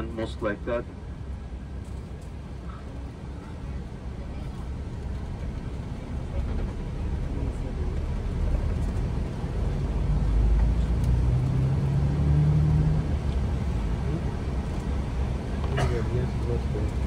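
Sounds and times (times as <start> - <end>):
engine hum: 0.0 - 17.0
road noise rumble: 0.0 - 17.0.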